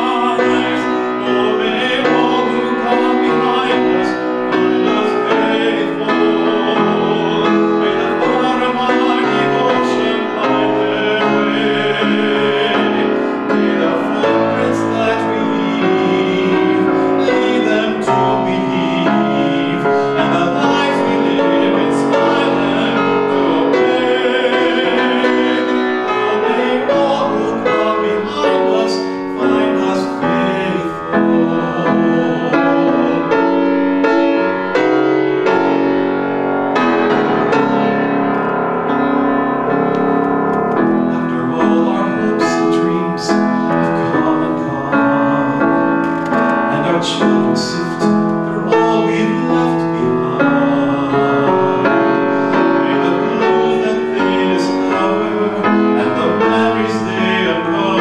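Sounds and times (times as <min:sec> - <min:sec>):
man singing: 0:00.0 - 0:34.0, 0:40.8 - 0:58.0
grand piano: 0:00.0 - 0:58.0.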